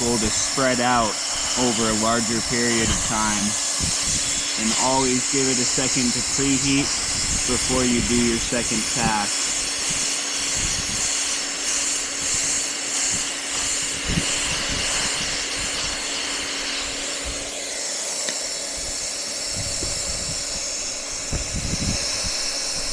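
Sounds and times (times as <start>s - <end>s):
hot-air welder blower hiss: 0.0s - 22.9s
low motor hum: 0.0s - 22.9s.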